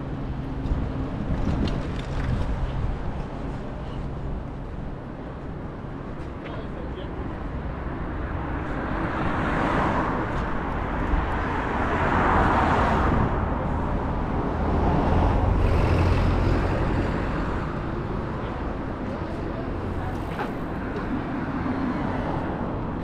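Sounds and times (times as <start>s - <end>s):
road vehicles passing: 0.0s - 23.0s.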